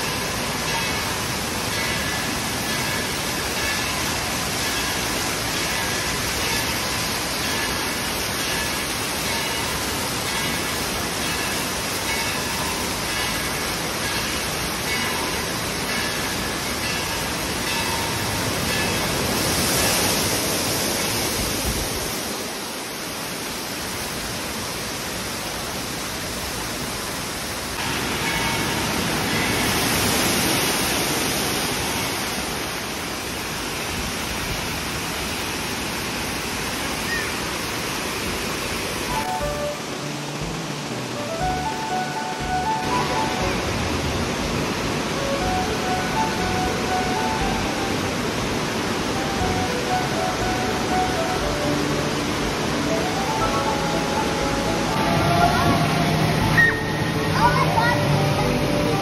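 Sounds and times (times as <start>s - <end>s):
water rushing and splashing: 0.0s - 59.0s.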